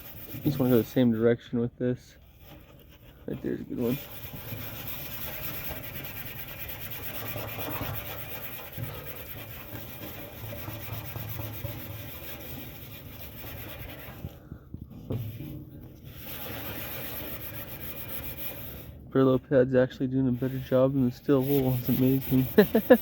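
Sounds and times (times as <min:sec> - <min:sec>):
steel wool scrubbing metal: 0:00.0 - 0:23.0.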